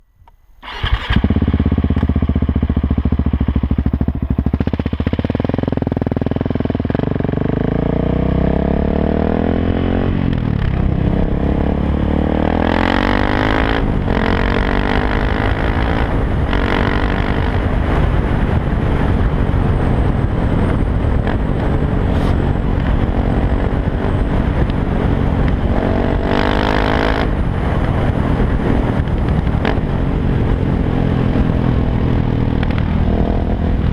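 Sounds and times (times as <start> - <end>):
motorcycle engine revving loudly: 0.7 - 33.9.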